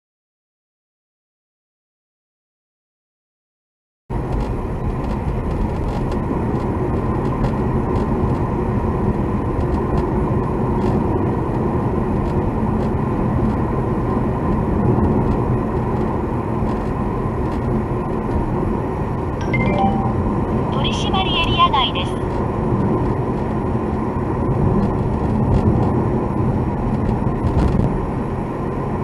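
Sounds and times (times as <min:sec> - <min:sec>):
car engine and road noise: 0:04.1 - 0:29.0.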